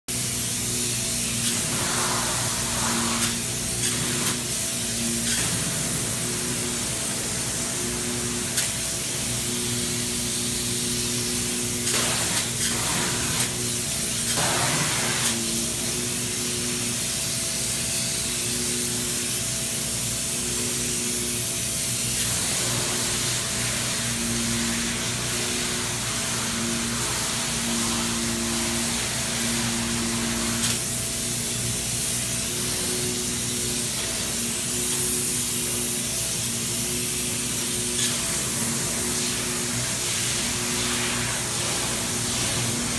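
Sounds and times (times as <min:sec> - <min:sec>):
spray foam gun hissing: 0:00.1 - 0:42.9.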